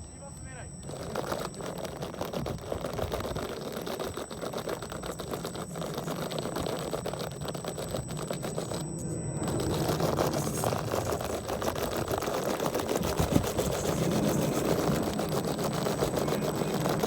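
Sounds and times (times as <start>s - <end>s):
electric motor whine: 0.0s - 17.0s
drivetrain clicking rattle: 0.4s - 17.0s.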